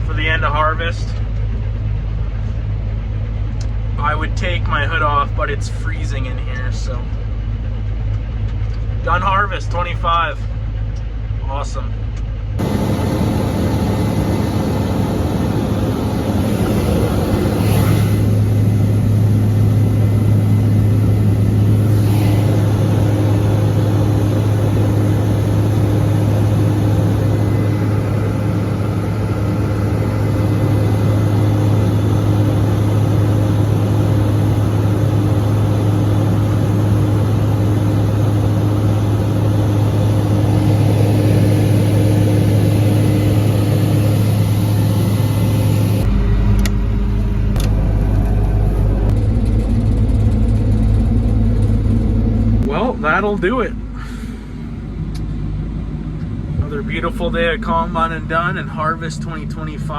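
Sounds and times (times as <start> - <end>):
diesel engine low hum: 0.0 - 59.9.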